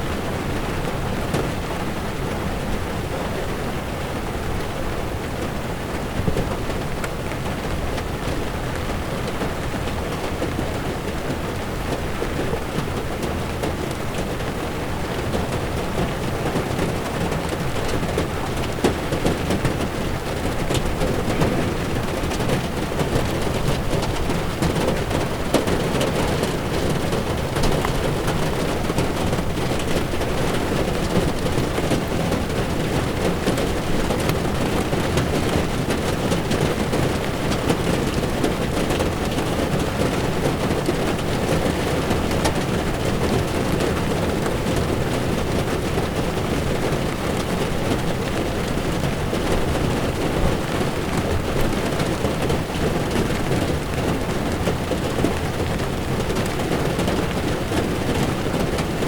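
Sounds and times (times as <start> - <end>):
heavy rain on windshield: 0.0 - 59.0
tyres rumbling on wet road: 0.0 - 59.0.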